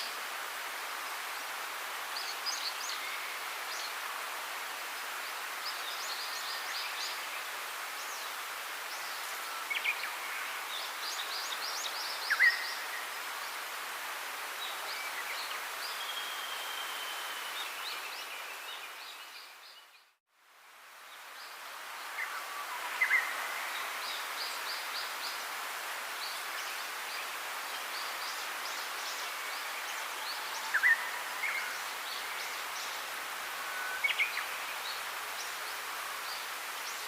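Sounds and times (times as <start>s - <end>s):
outdoor ambience hiss: 0.0s - 37.0s.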